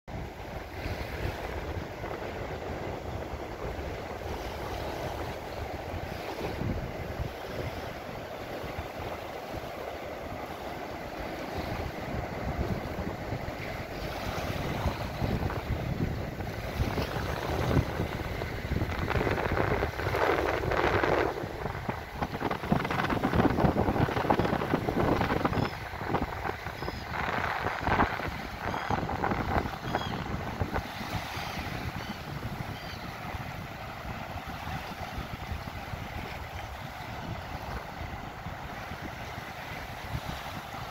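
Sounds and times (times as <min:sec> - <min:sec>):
small waves breaking: 0:00.1 - 0:40.9
wind buffeting microphone: 0:00.1 - 0:40.9.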